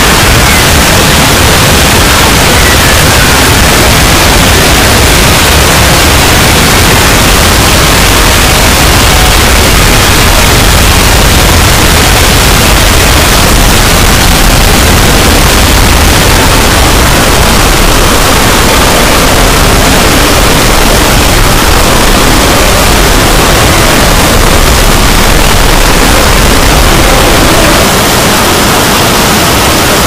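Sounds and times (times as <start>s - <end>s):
dense distorted wall of noise: 0.0s - 30.0s.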